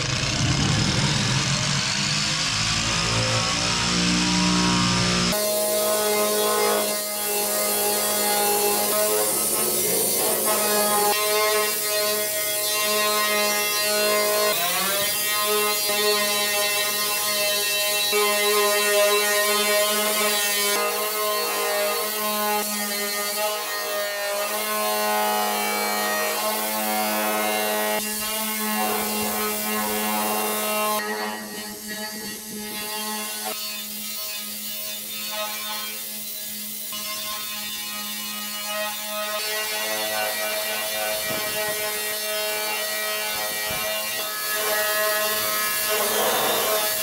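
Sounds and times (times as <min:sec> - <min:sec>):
power tool grinding sheet metal: 0:00.0 - 0:47.0.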